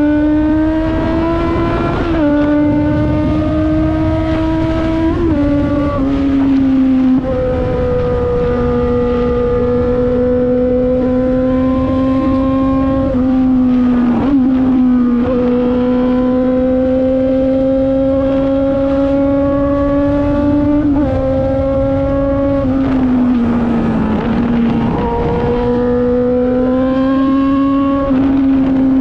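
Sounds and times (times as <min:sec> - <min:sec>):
motorcycle engine at high revs: 0:00.0 - 0:29.0.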